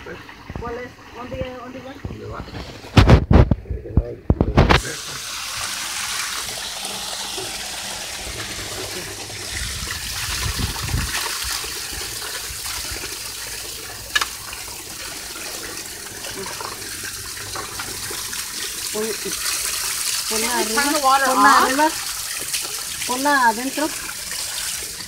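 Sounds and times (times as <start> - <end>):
water gushing from pipe: 0.0 - 3.5, 4.4 - 25.0.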